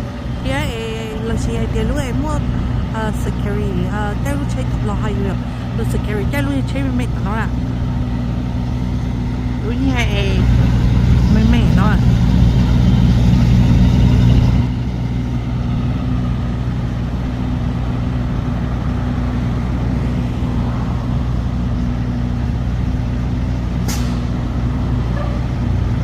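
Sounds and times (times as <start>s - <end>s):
truck engine humming: 0.0s - 26.0s.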